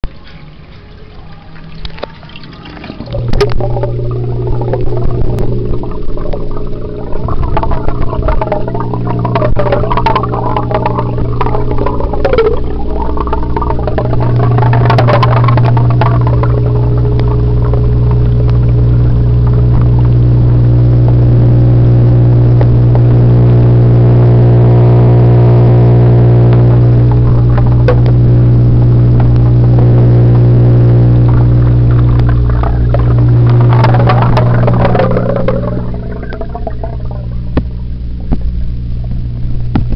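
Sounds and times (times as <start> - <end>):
shifting water sounds: 0.0 - 20.6, 26.4 - 39.9
low electric hum: 0.0 - 39.9.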